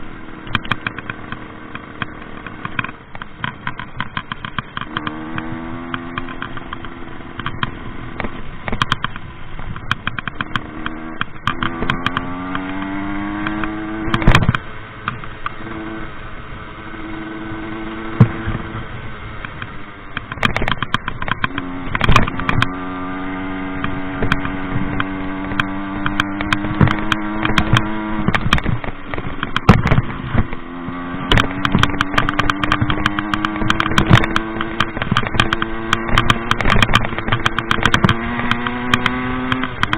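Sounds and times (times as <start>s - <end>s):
moped engine revving: 0.0s - 39.9s
sharp knocks and clatter: 0.4s - 15.6s, 19.4s - 39.9s.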